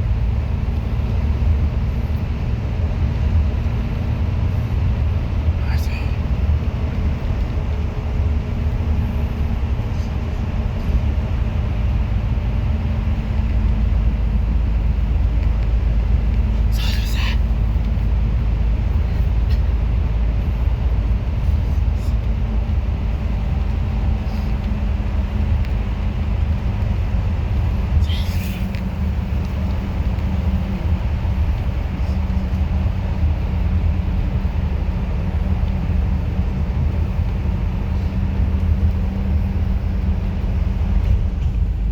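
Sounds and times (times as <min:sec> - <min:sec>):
bus engine rumble: 0:00.0 - 0:41.9.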